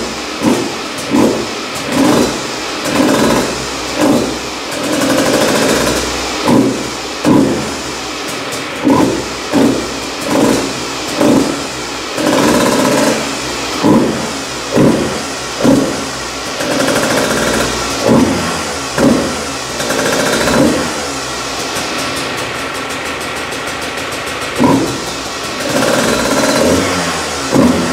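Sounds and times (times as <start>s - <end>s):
two-stroke engine revving: 0.0s - 27.9s.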